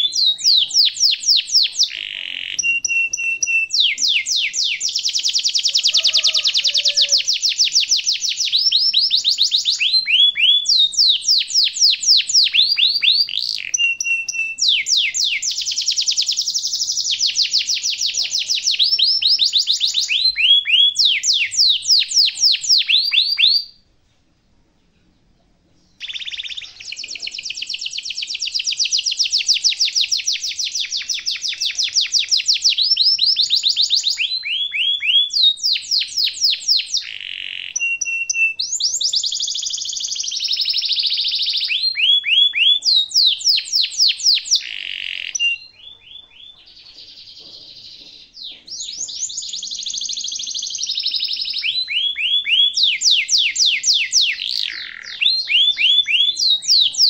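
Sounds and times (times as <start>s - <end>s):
canary singing trills: 0.0s - 23.8s, 25.8s - 57.0s.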